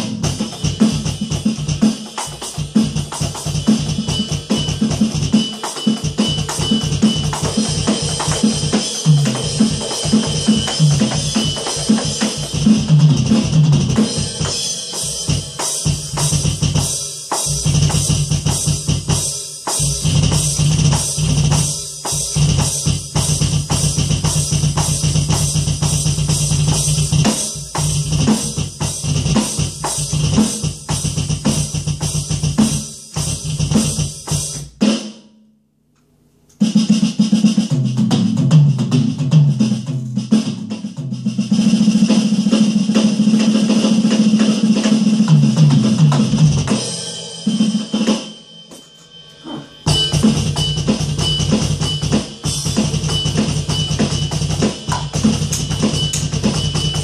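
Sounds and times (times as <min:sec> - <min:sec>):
electronic drum kit beat: 0:00.0 - 0:35.2, 0:36.6 - 0:57.0.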